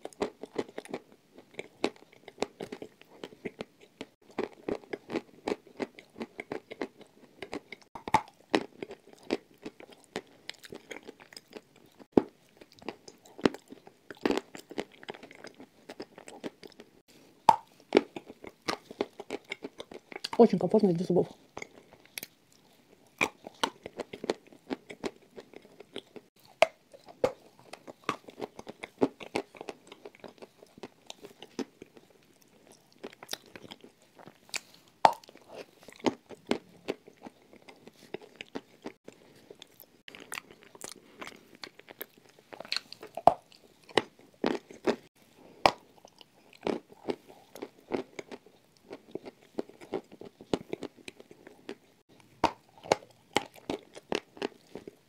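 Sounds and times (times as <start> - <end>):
soft chewing: 0.0 - 20.6, 21.3 - 55.0.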